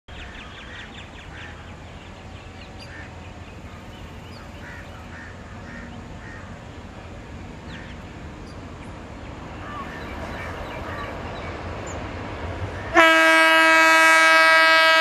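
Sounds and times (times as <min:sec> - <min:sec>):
birds calling: 0:00.1 - 0:13.0.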